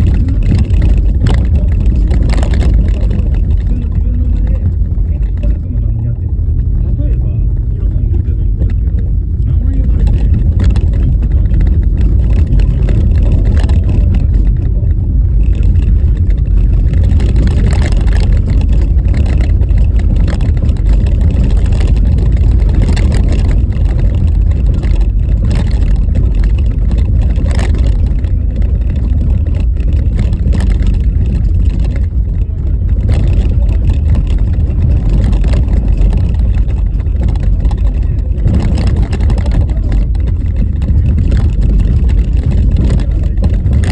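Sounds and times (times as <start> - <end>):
car jolting and knocking: 0.0 - 43.9
tyres rumbling on rough road: 0.0 - 43.9.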